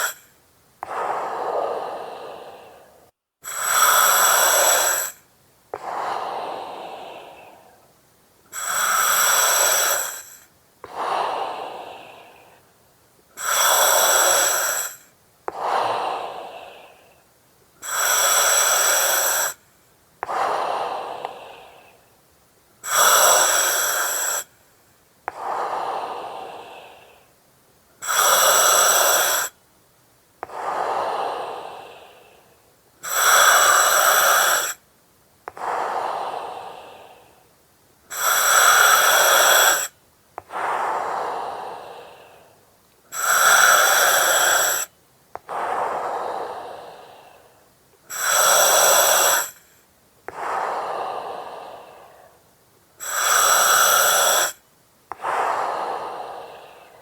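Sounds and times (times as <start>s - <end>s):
breathing through oxygen mask: 0.0s - 7.9s, 8.5s - 12.7s, 13.3s - 17.2s, 17.8s - 19.6s, 20.2s - 22.0s, 22.8s - 24.5s, 28.0s - 29.6s, 30.4s - 34.8s, 35.5s - 37.5s, 38.1s - 52.4s, 53.0s - 57.0s.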